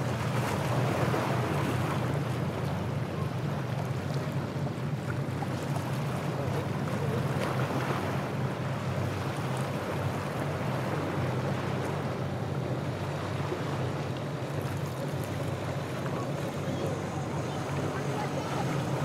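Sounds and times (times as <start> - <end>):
boat motor droning: 0.0 - 19.0
waves and surf: 0.0 - 19.0.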